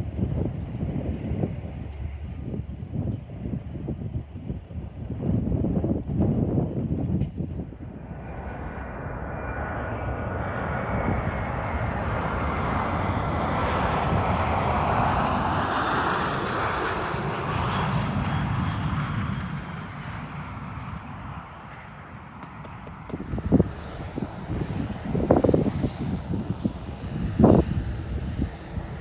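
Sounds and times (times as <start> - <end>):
airplane engines roaring: 0.0 - 29.0.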